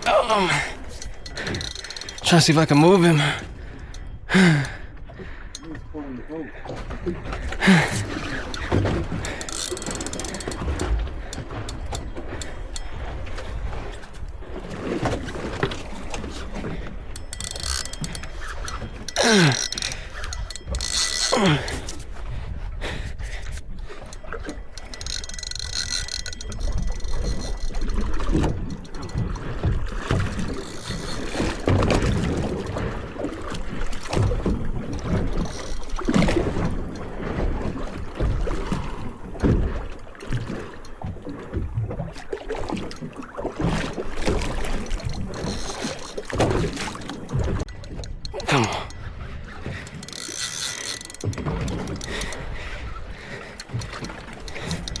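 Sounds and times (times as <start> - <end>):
fishing reel drag clicking: 0.0 - 5.7, 8.0 - 14.2, 15.1 - 22.2, 23.1 - 37.4, 42.5 - 55.0
low boat rumble: 0.0 - 55.0.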